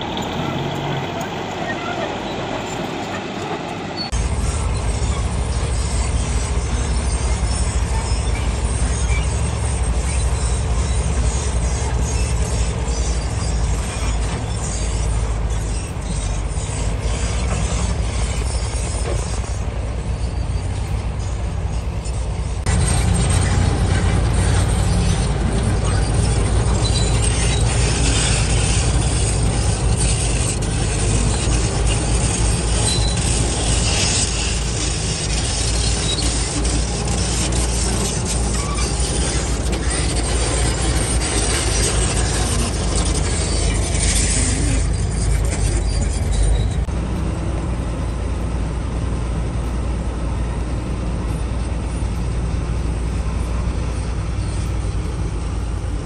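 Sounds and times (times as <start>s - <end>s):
bulldozer diesel engines running: 0.0s - 56.0s
steel tracks clanking: 0.0s - 56.0s.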